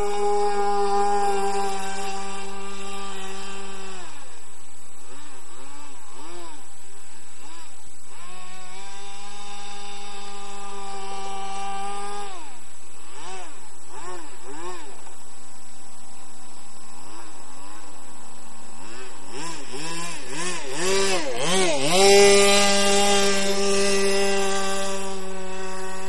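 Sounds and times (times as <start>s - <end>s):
model airboat engine revving: 0.0s - 15.8s, 18.6s - 26.0s.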